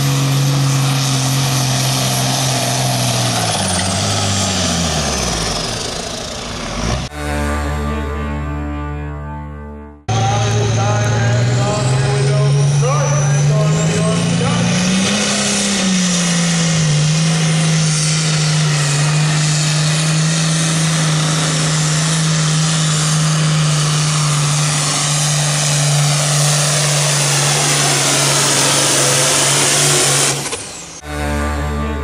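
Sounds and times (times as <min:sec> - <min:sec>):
tractor diesel engine running hard: 0:00.0 - 0:08.3, 0:10.1 - 0:32.0.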